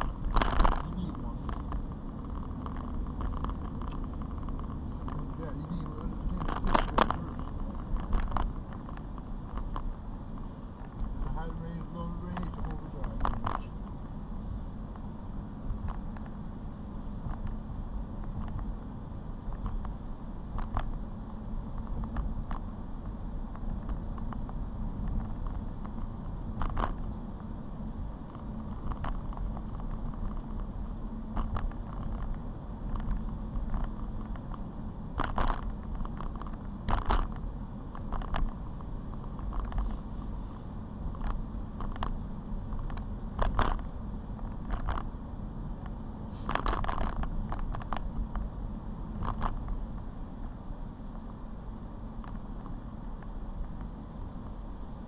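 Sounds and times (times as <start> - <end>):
road and engine rumble in car: 0.0 - 55.0.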